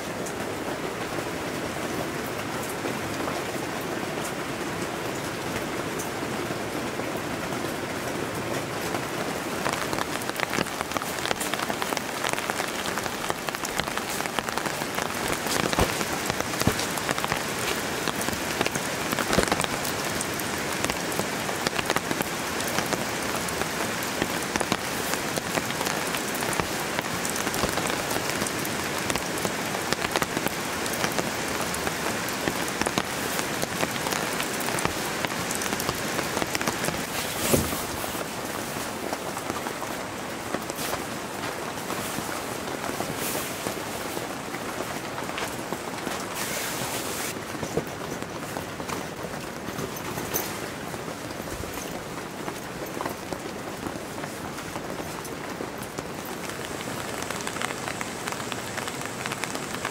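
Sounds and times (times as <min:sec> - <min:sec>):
raindrops ticking close by: 0:00.0 - 0:59.9
steady rain falling: 0:00.0 - 0:59.9.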